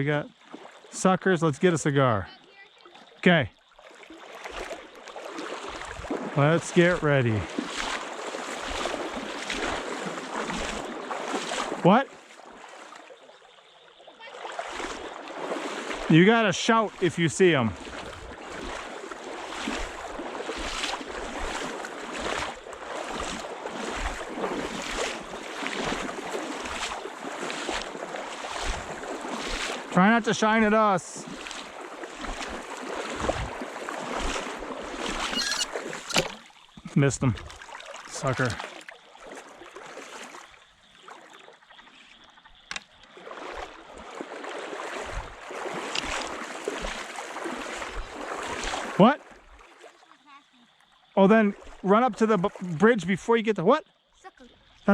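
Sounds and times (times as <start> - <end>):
water sloshing from wading: 0.0 - 1.0, 2.0 - 53.0, 53.8 - 54.9.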